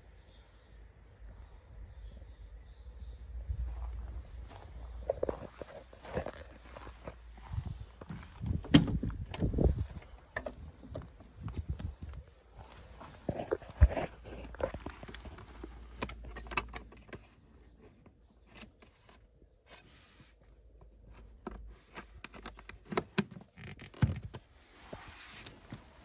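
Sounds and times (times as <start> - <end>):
handling clicks and scrapes: 5.0 - 26.0.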